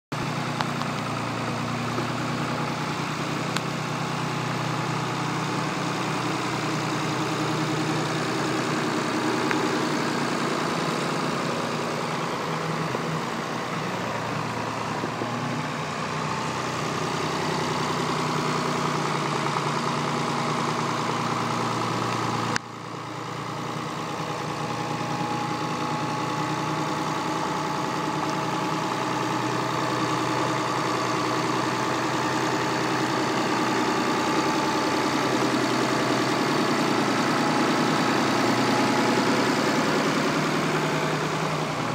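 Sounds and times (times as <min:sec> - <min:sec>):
tractor engine running: 0:00.1 - 0:41.9.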